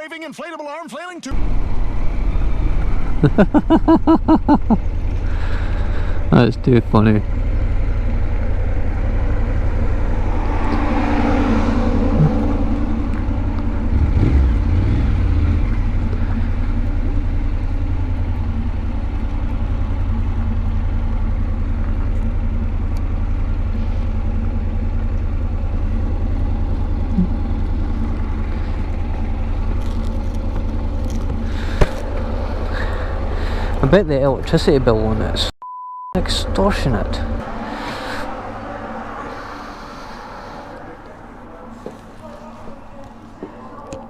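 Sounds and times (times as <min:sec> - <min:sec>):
motorcycle engine running: 0:01.3 - 0:35.5, 0:36.2 - 0:44.0.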